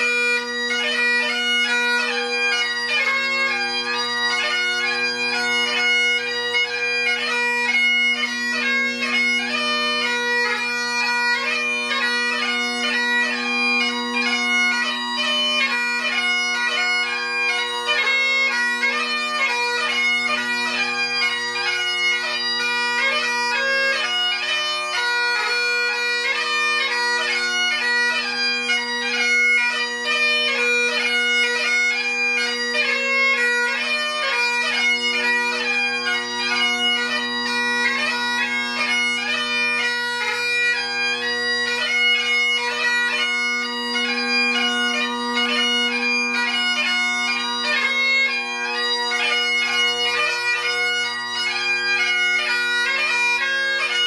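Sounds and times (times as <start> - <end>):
bagpipe playing: 0.0 - 54.0.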